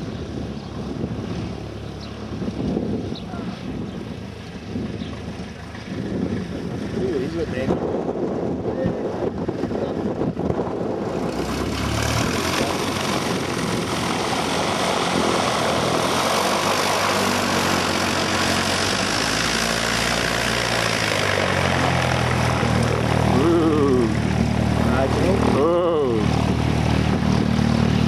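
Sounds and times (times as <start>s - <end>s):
light aircraft engine drone: 0.0s - 28.0s.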